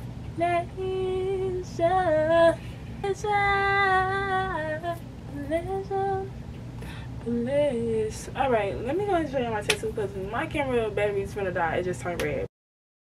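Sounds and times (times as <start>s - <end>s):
woman singing unaccompanied: 0.4s - 6.4s, 7.2s - 12.5s.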